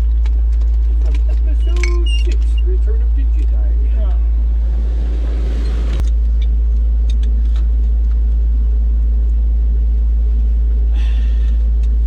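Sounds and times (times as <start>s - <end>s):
large engine droning: 0.0s - 12.0s.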